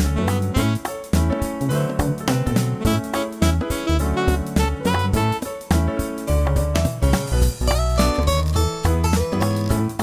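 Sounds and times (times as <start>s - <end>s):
instrumental music with bass and beat: 0.0s - 10.0s.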